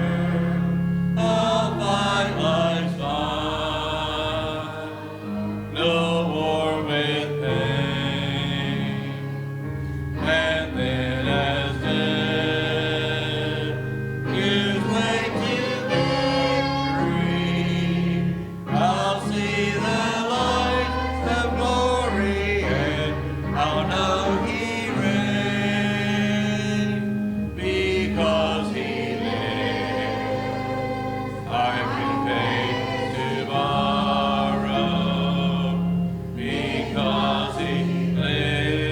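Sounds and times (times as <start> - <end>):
group singing a hymn: 0.0 - 38.9
sustained bass accompaniment: 0.0 - 38.9.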